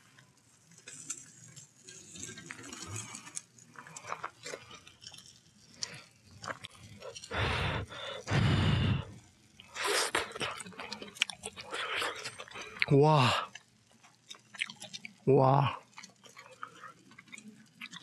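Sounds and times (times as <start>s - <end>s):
bacon sizzling: 0.0s - 18.0s.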